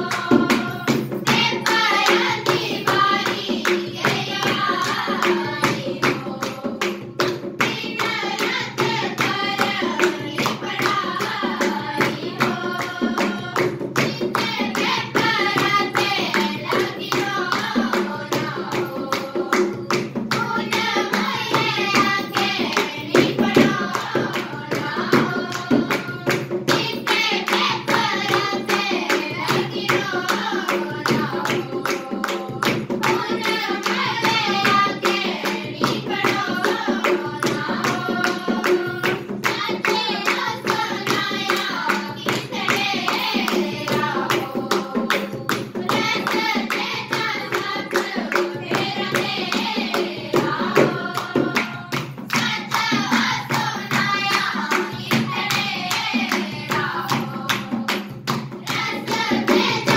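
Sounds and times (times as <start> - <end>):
girls singing: 0.0 - 59.9
rhythmic hand clapping: 0.0 - 59.9.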